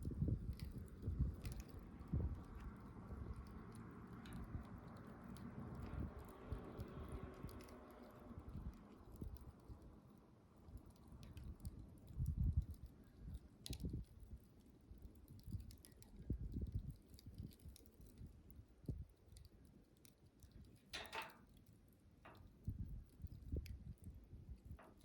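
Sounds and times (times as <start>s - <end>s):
campfire crackling and popping: 0.0s - 9.9s, 10.6s - 25.0s
low fire rumble: 0.0s - 25.0s.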